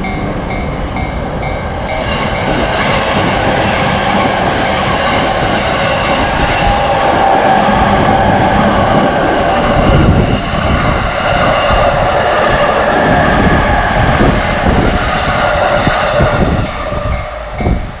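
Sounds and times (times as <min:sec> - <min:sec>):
train wheels rumbling and clattering: 0:00.0 - 0:18.0.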